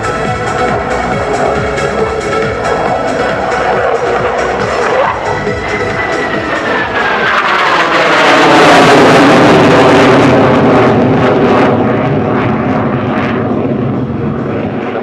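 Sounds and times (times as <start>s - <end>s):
jet passing by: 0.0s - 15.0s.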